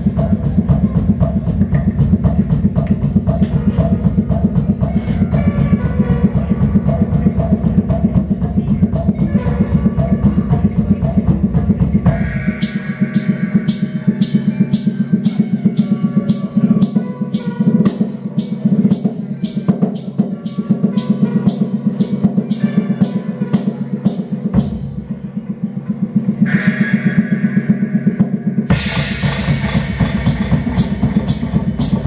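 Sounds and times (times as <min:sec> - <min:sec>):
sharp percussion hits: 0:00.0 - 0:32.0.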